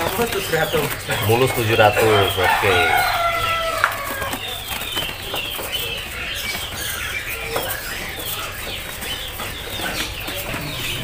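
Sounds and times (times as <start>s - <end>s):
songbirds chirping: 0.0s - 11.0s
wings flapping: 0.0s - 11.0s.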